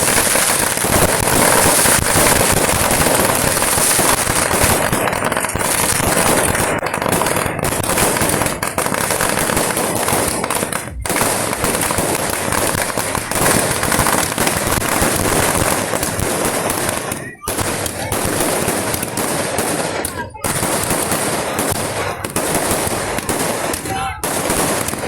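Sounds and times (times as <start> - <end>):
firecracker bangs and crackling: 0.0 - 25.0.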